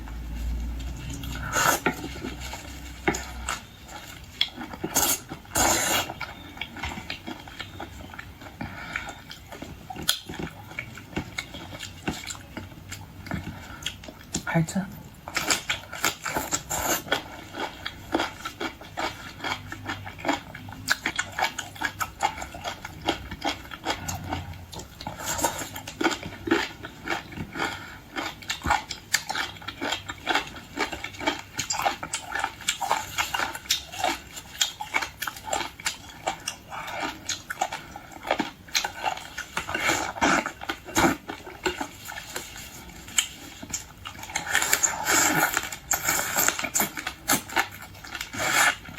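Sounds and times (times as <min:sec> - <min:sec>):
chewing clicks and crunches: 0:00.1 - 0:14.5, 0:15.1 - 0:48.9.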